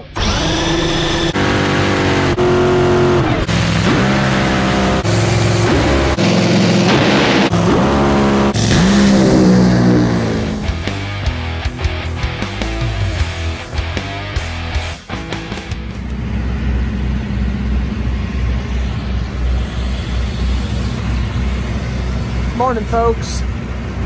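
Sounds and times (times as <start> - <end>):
drag racing engine revving: 0.0 - 24.0.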